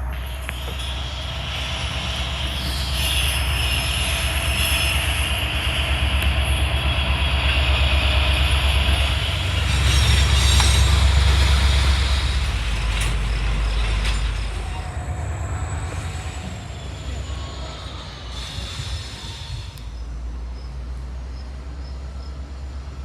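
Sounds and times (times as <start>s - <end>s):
high wheel squeal: 0.0s - 20.8s
train rumbling past: 0.0s - 23.0s.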